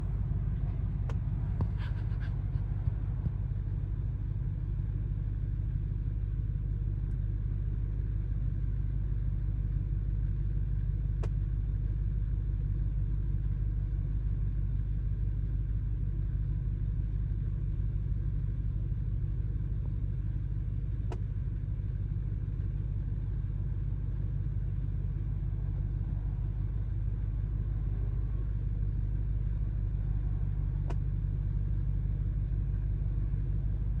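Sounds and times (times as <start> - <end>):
car low rumble: 0.0 - 34.0.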